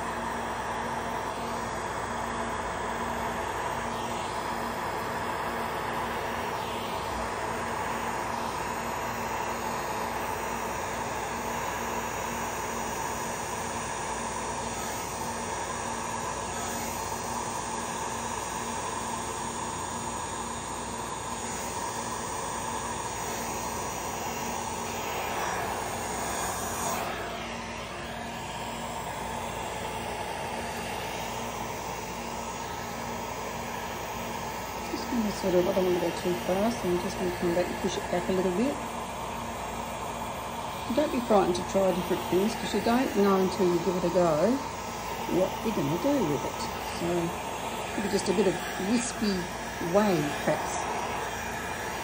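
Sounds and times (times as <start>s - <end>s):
heat gun fan blowing: 0.0s - 52.0s.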